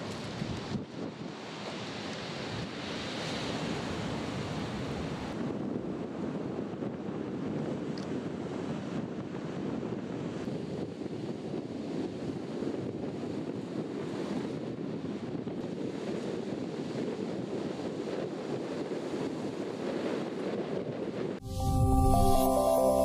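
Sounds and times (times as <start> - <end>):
wind buffeting microphone: 0.0 - 22.1.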